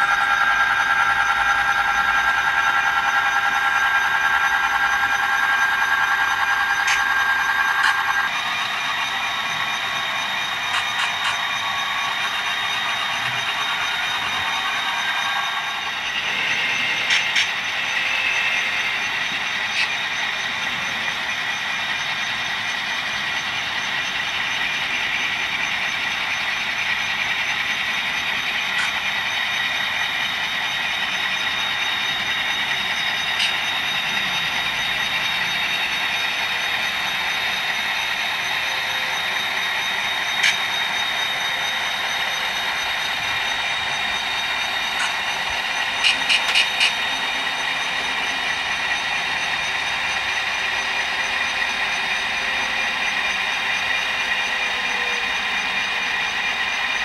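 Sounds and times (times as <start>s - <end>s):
diesel engine sound from small speaker: 0.0s - 57.0s.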